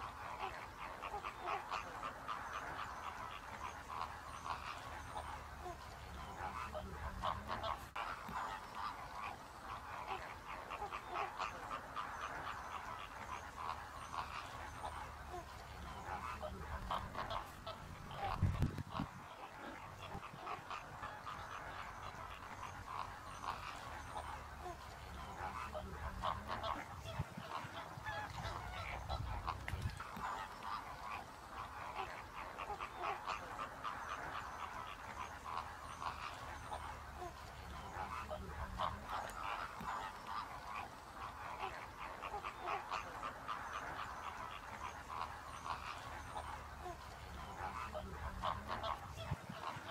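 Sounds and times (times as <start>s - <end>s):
flock of waterbirds honking: 0.0s - 49.9s.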